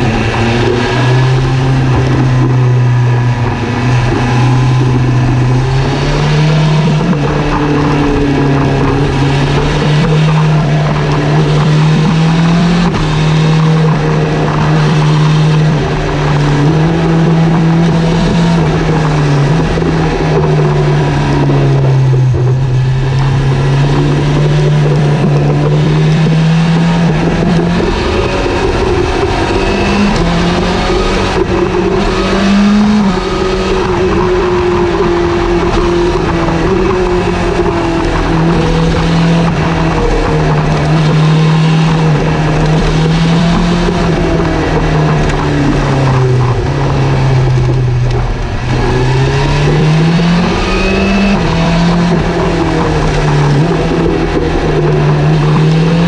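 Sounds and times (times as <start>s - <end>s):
motorcycle engine running: 0.0s - 56.0s
steady rush of noise: 0.0s - 56.0s.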